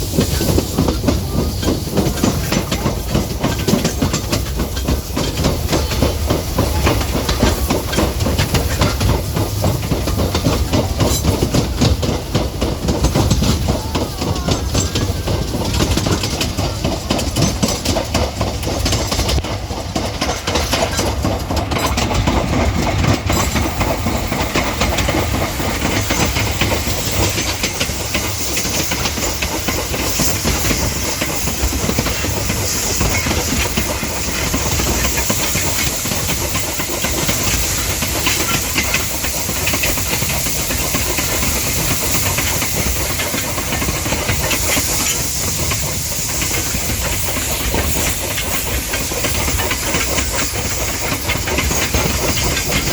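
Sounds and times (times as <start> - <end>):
clatter of rail wheels: 0.0 - 52.9
hiss of steam: 0.0 - 52.9.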